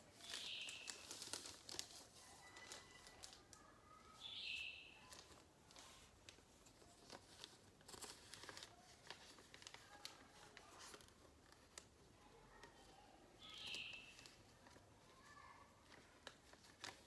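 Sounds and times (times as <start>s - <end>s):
paper rustling and crinkling: 0.0s - 4.3s, 5.0s - 17.0s.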